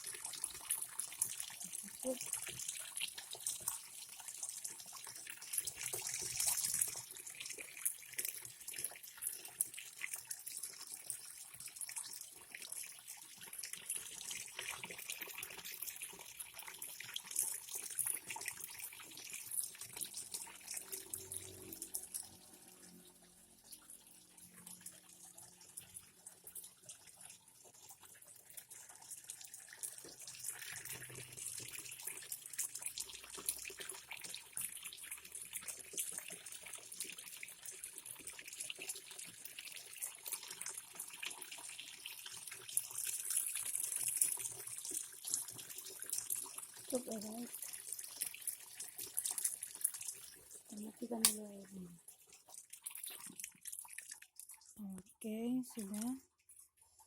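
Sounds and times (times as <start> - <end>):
water pouring into a tub: 0.0 - 57.0.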